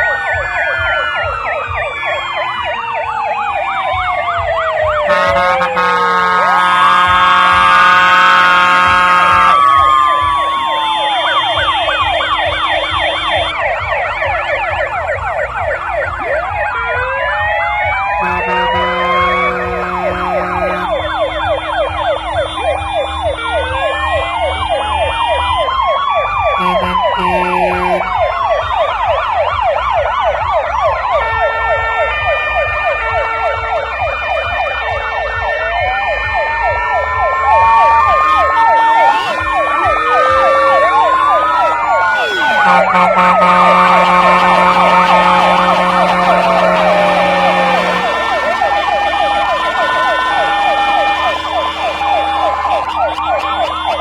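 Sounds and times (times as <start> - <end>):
fire engine sirens: 0.0 - 54.0.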